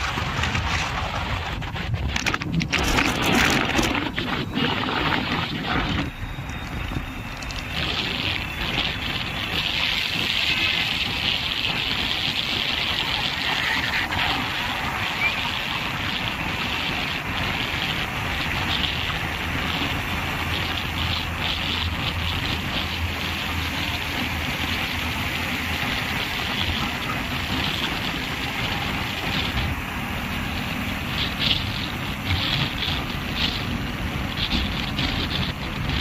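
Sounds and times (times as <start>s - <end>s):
vehicle road noise: 0.0s - 36.0s
wind rushing over microphone: 0.0s - 36.0s.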